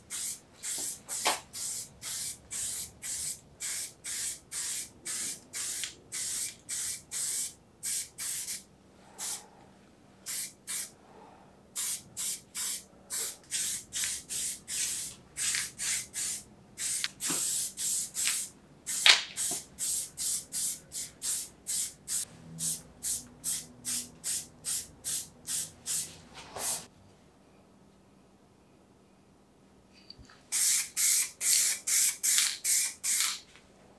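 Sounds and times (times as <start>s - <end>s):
spray can hissing in bursts: 0.1s - 8.6s, 10.3s - 10.9s, 11.8s - 26.9s, 30.5s - 33.4s.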